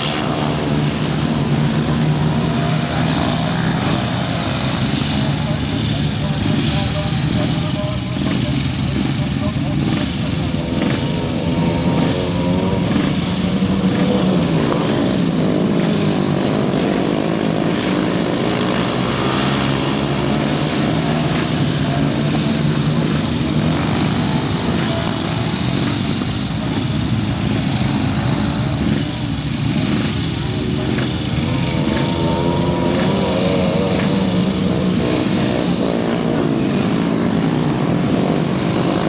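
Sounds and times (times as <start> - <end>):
racing engines howling: 0.0 - 39.0.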